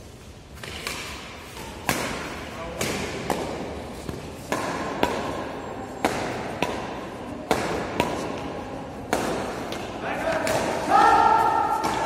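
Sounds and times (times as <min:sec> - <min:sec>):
badminton rackets striking shuttlecock: 0:00.5 - 0:12.0.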